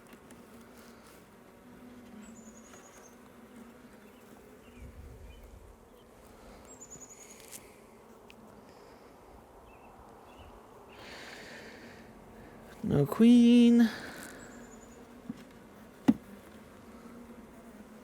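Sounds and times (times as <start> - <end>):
single bees passing close: 0.0 - 18.0
bees buzzing: 0.2 - 9.5, 10.3 - 18.0.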